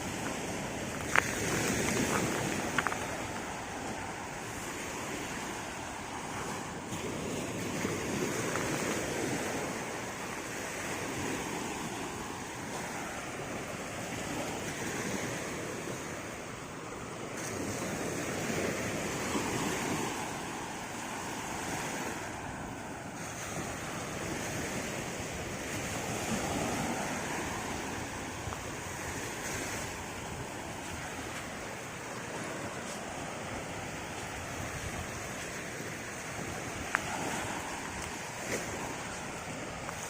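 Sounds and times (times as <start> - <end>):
sea waves washing onto beach: 0.0 - 40.0
wind on microphone: 0.0 - 40.0.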